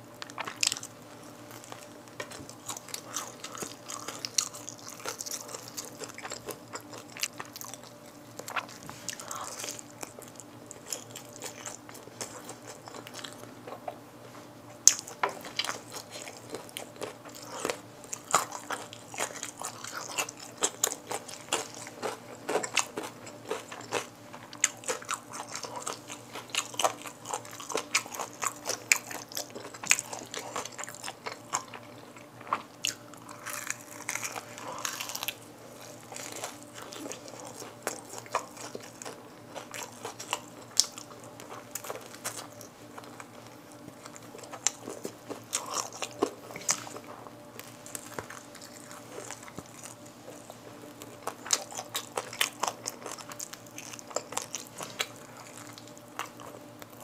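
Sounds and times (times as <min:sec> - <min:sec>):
crunchy chewing of fried chicken: 0:00.0 - 0:57.0.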